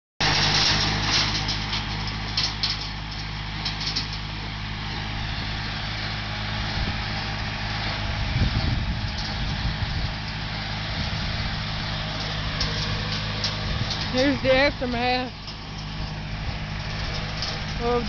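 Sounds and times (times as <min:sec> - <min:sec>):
tractor engine running: 0:00.2 - 0:18.0.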